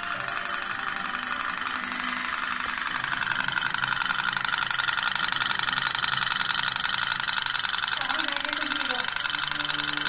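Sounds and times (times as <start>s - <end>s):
toy steam boat putt-putt: 0.0s - 10.0s.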